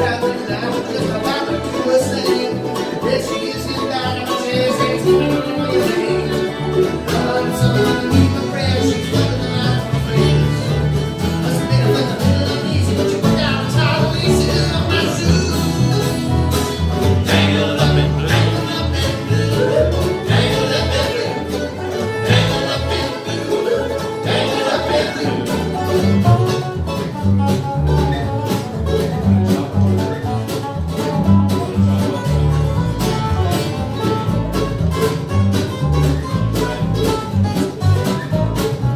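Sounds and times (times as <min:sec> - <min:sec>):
bluegrass band playing: 0:00.0 - 0:38.9
upright bass: 0:00.0 - 0:38.9.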